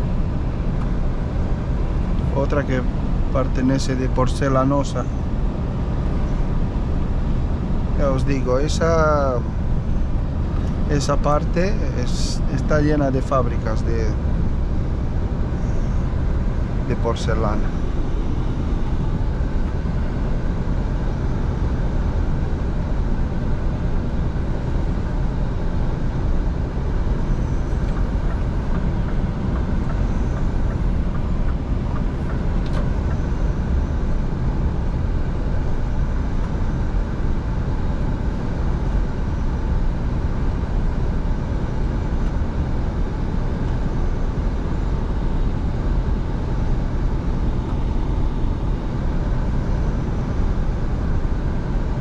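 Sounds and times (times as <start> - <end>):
truck engine and road noise: 0.0 - 52.0.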